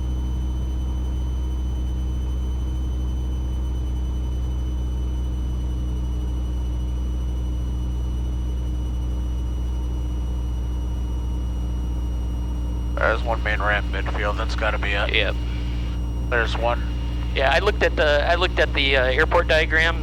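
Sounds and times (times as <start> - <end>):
plane engine and propeller droning: 0.0 - 20.0.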